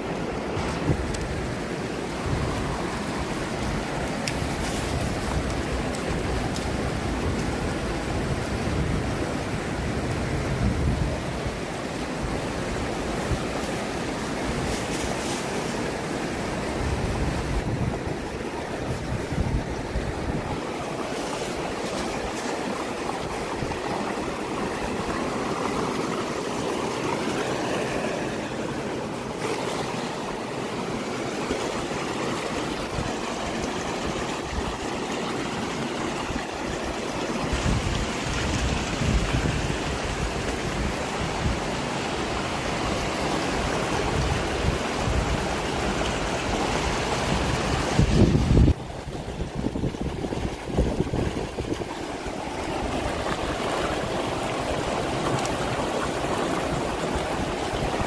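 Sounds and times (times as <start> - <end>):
wind buffeting microphone: 0.0 - 15.2, 15.9 - 58.0
river rushing: 0.0 - 58.0.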